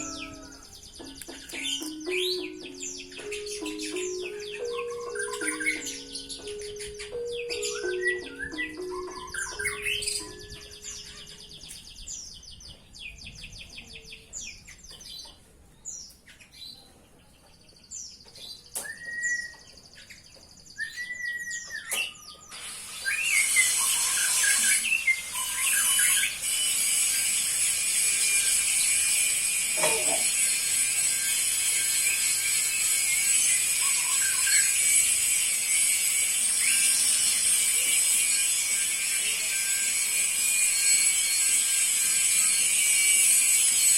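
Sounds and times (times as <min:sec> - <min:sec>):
canary singing: 0:00.0 - 0:43.9.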